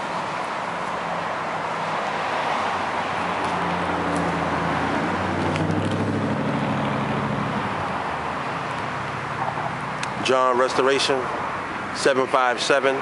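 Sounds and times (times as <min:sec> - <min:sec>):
vehicle engine low hum: 0:00.0 - 0:12.0
road traffic hiss: 0:00.0 - 0:13.0.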